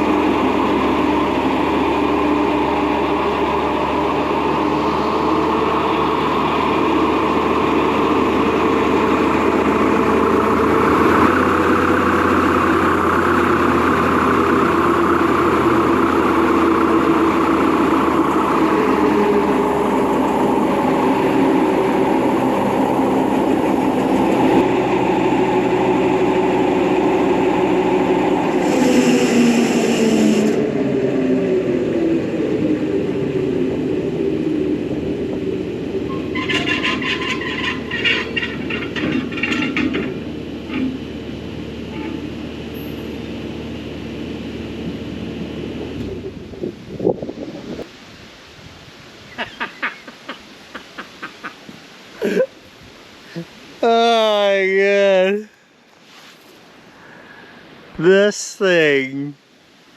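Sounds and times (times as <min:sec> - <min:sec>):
diesel engine under load: 0:00.0 - 0:58.3.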